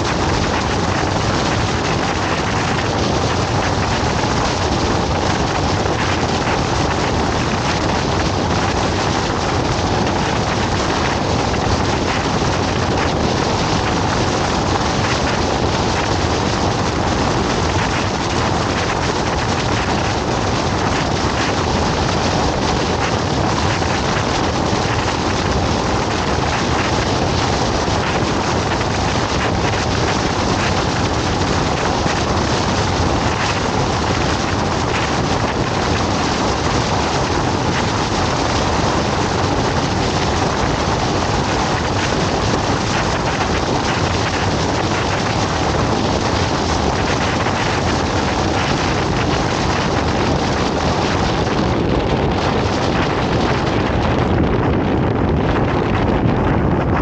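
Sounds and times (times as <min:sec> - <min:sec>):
rain: 0:00.0 - 0:56.1
wind buffeting microphone: 0:00.0 - 0:57.0.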